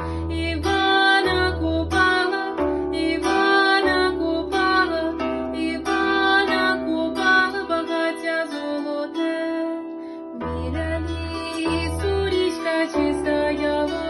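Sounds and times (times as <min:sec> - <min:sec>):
plucked string melody: 0:00.0 - 0:14.0.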